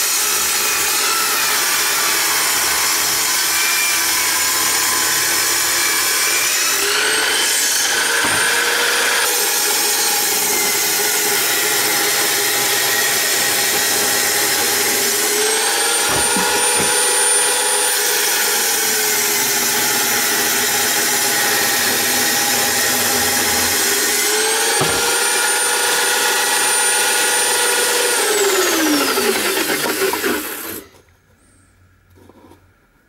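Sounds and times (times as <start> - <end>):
saw blade whining through board: 0.0 - 31.0.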